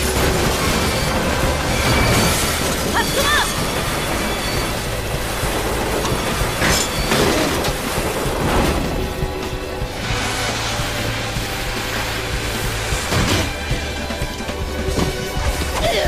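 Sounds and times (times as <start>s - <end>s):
debris crashing and shattering: 0.0s - 15.8s
dense steady rumble: 0.0s - 16.0s.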